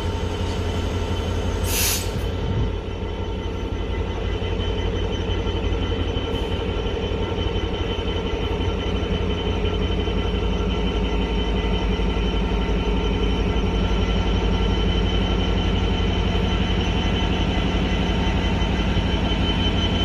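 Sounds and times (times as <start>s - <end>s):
diesel locomotive engine rumble: 0.0s - 20.0s
locomotive whine: 0.0s - 20.0s.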